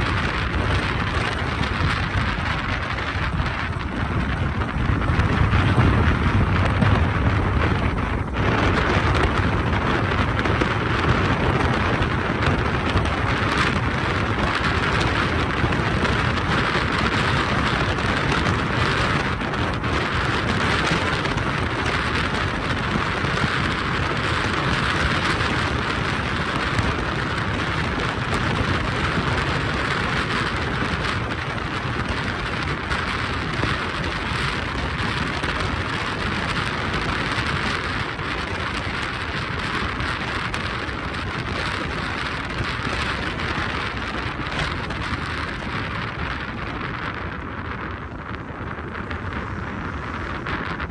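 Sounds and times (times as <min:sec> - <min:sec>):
road and wind noise: 0:00.0 - 0:50.9.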